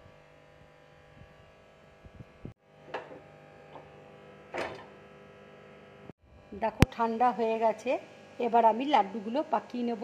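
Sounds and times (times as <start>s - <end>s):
steady electrical buzz: 0.0s - 10.0s.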